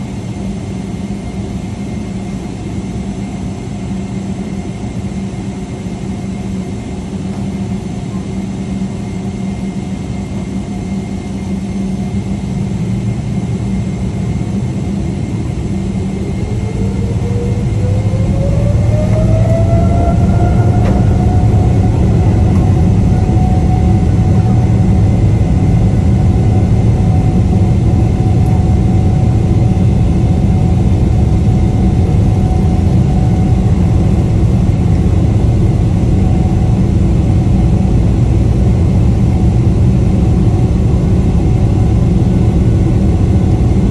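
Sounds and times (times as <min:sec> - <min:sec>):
jet engine whine rising: 0:00.0 - 0:43.9
low rumble of takeoff roll: 0:06.4 - 0:43.9.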